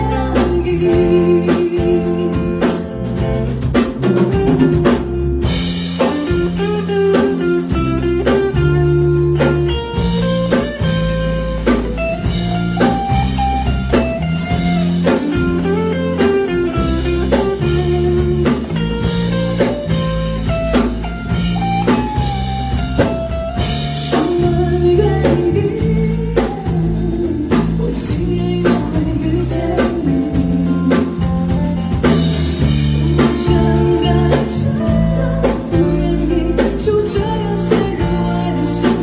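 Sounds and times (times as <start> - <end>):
instrumental pop music: 0.0 - 39.0.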